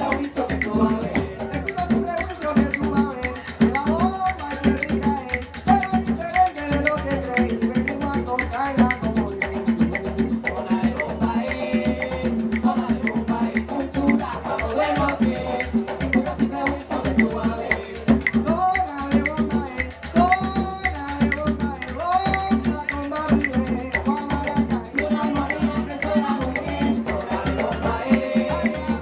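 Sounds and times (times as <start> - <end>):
hand drums: 0.0 - 29.0
maraca shaking: 0.0 - 29.0
voices singing: 0.0 - 29.0.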